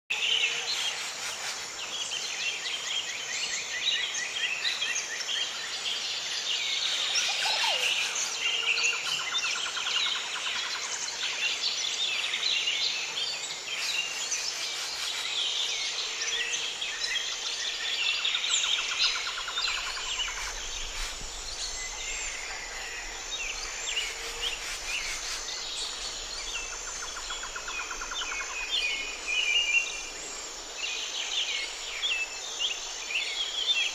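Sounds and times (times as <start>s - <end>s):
chorus of small birds chirping: 0.2s - 33.9s.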